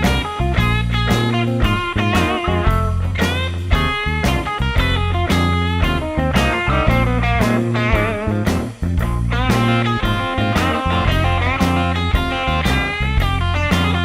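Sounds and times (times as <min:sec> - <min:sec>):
bluesy rock music: 0:00.0 - 0:14.0.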